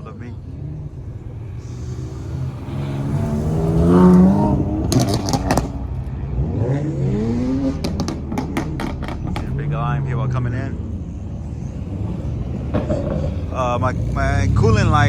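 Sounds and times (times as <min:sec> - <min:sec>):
exhaust cracks: 0:00.0 - 0:06.2, 0:06.8 - 0:15.0
car engine revving: 0:00.0 - 0:15.0.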